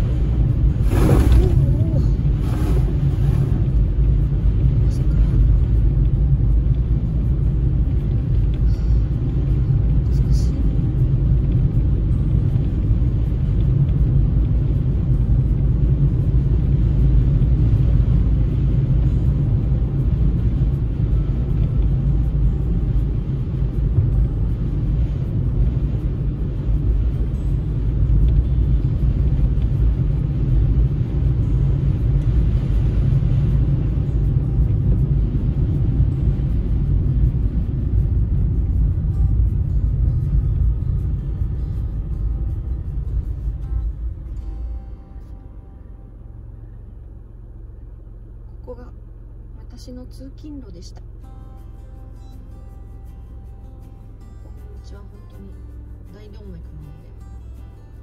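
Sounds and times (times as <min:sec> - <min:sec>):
car driving on snowy road: 0:00.0 - 0:58.0.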